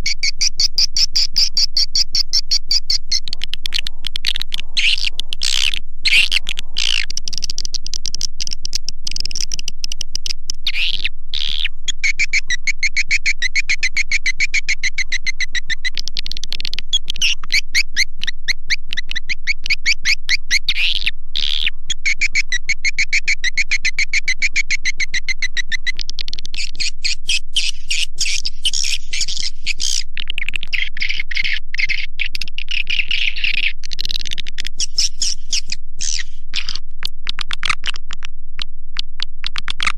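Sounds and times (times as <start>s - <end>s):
swiftlet chittering calls: 0.0s - 36.8s.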